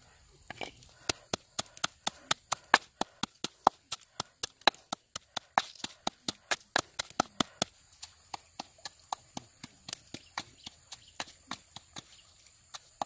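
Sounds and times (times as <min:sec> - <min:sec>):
pestle pounding in mortar: 0:00.6 - 0:13.0.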